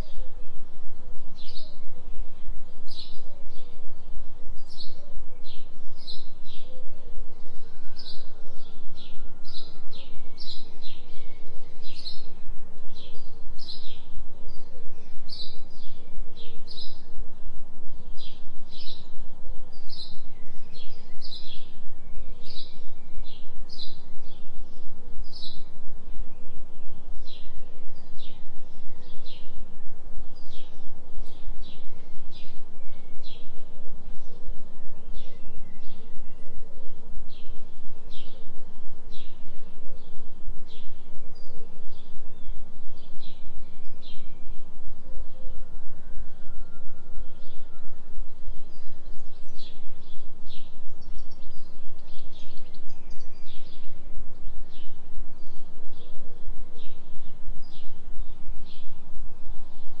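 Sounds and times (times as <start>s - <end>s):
low throbbing hum tone: 0.0s - 60.0s.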